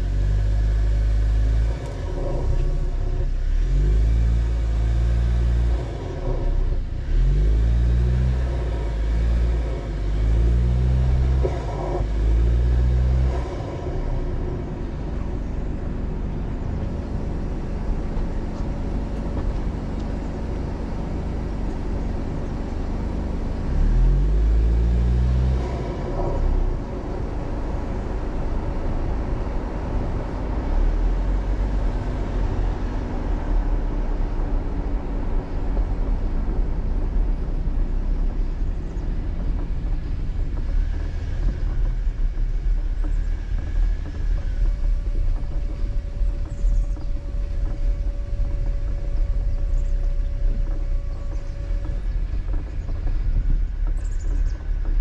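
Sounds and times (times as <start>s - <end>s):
car engine accelerating: 0.0s - 55.0s
engine and tyre rumble: 0.0s - 55.0s.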